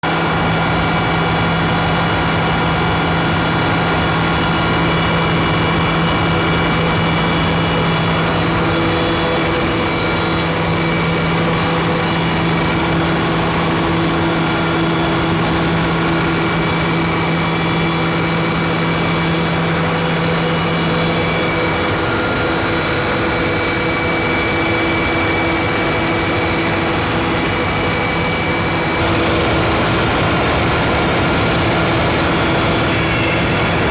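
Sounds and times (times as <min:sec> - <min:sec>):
machine running loudly: 0:00.0 - 0:33.9.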